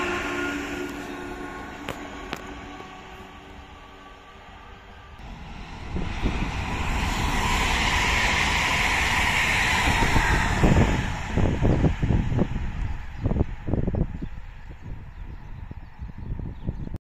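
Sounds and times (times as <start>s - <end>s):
electric train passing: 0.0s - 16.9s
wheels rushing on rail: 0.0s - 17.0s.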